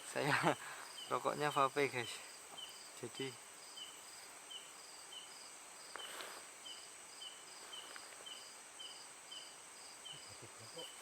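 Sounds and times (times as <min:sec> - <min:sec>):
insect chirping: 0:00.0 - 0:11.0
insects buzzing: 0:00.0 - 0:11.0
soft hiss: 0:00.0 - 0:11.0.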